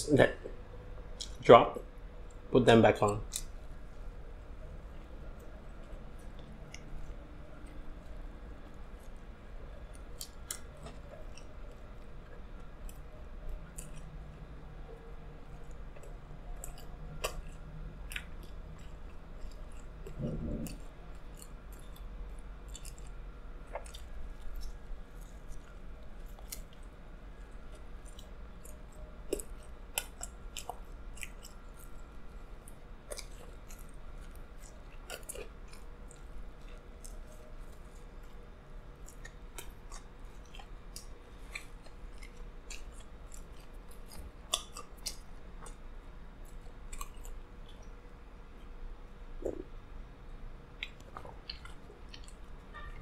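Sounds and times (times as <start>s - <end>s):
low steady hum: 0.0s - 53.0s
person chewing pizza: 0.2s - 53.0s
pizza crust crunching: 2.8s - 48.0s.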